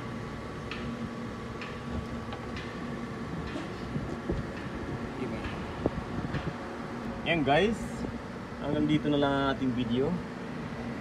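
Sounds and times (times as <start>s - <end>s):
steady electric hum: 0.0s - 11.0s.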